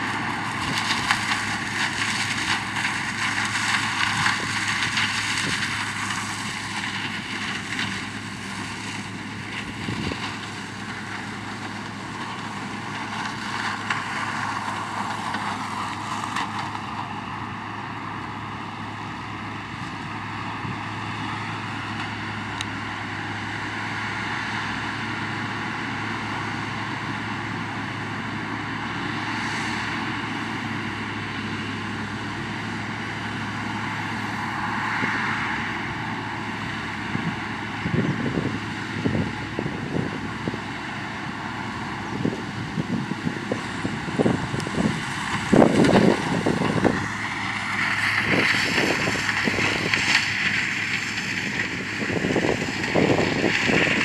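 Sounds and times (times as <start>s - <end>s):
harvester diesel engine droning: 0.0s - 54.0s.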